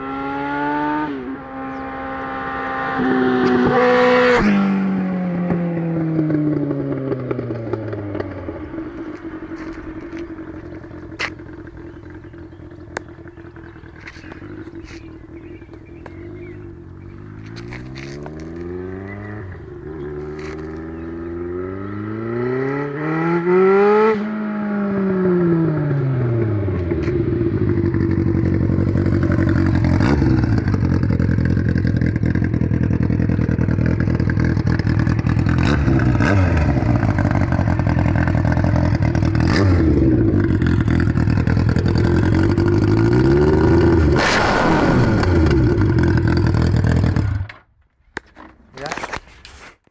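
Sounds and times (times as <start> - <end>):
motorcycle engine revving: 0.0 - 47.7.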